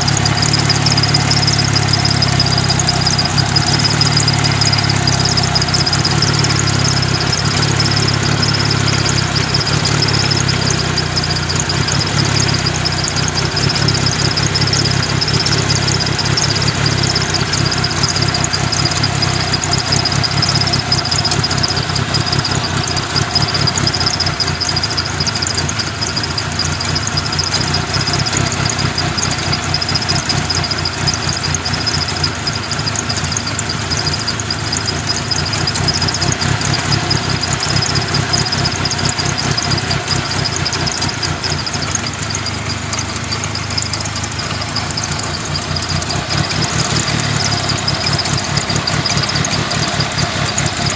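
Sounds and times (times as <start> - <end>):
car engine idling roughly: 0.0 - 50.9.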